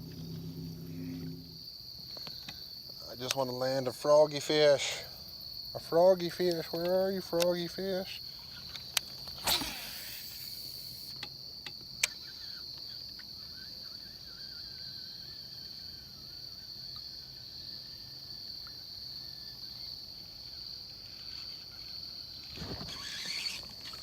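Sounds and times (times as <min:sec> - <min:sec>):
insect chorus drone: 0:00.0 - 0:24.0.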